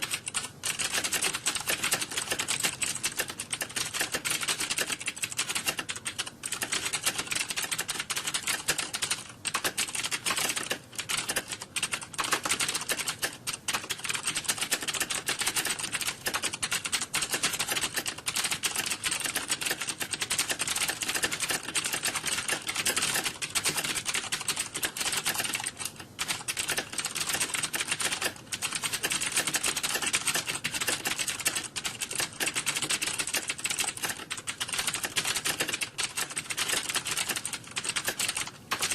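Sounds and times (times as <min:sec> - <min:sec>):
keyboard typing clatter: 0:00.0 - 0:38.9.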